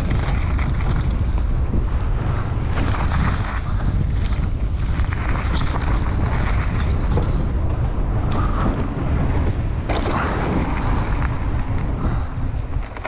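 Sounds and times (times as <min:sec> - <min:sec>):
bike clicks and rattles: 0:00.0 - 0:13.0
tyres rolling over dirt and planks: 0:00.0 - 0:13.0
wind buffeting microphone: 0:00.0 - 0:13.0.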